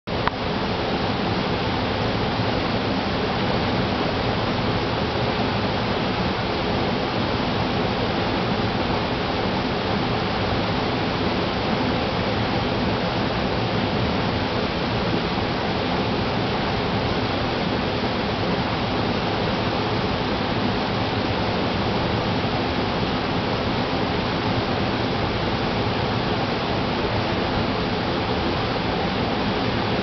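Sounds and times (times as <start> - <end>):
stream water rushing: 0.1 - 30.0.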